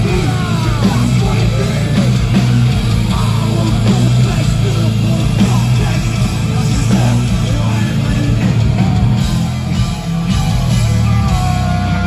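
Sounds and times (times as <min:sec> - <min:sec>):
heavy metal band playing live: 0:00.0 - 0:12.0.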